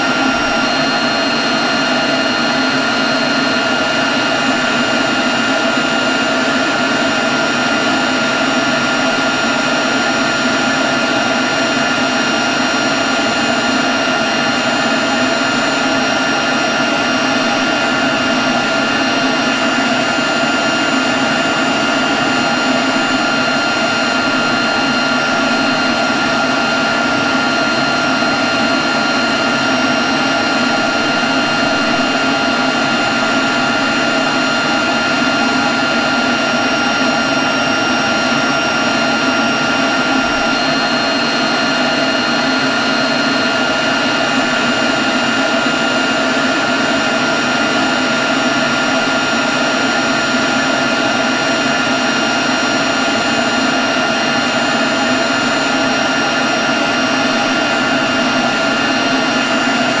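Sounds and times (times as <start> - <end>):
leaf blower running: 0.0 - 60.0.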